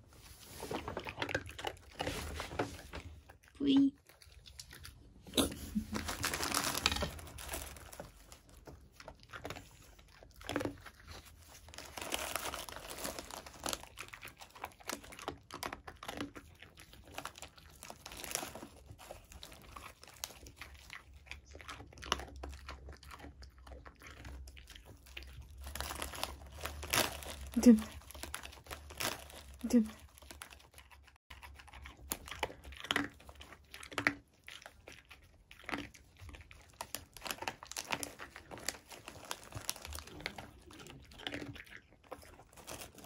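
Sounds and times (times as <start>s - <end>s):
dog crunching and chewing: 0.0s - 43.0s
plastic snack bag crinkling: 0.2s - 23.2s, 23.8s - 43.0s.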